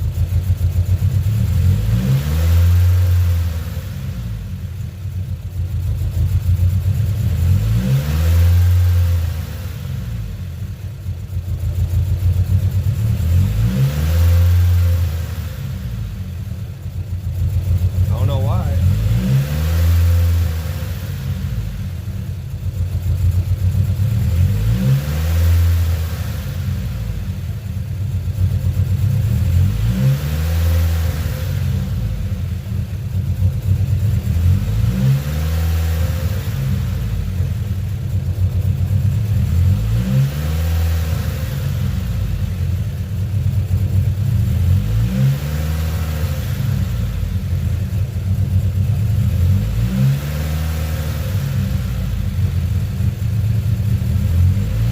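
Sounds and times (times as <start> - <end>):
car engine surging idle: 0.0 - 54.9.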